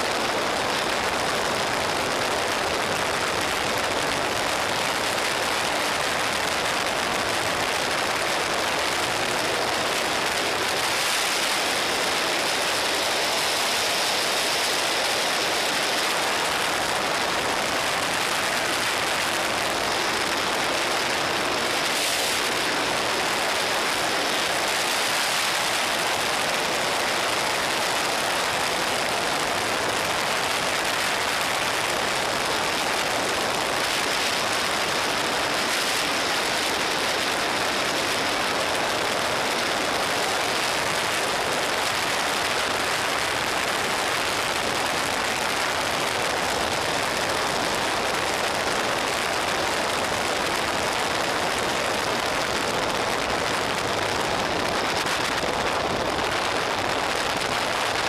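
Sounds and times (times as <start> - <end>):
motorcycle engine running: 0.0 - 57.9
wind rushing over microphone: 0.0 - 58.0.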